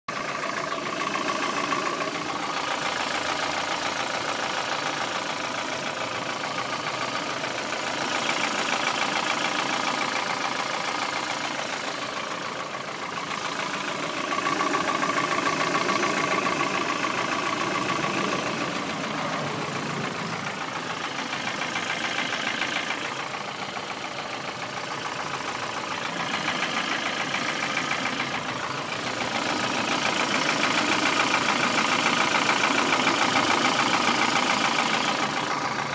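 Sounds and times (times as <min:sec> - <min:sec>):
car engine running: 0:00.1 - 0:35.9.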